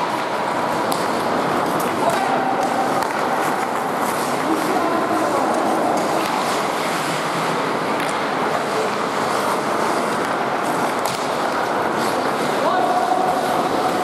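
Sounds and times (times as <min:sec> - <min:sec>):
reverberant arena hum: 0:00.0 - 0:14.0
skate blades scraping ice: 0:00.0 - 0:14.0.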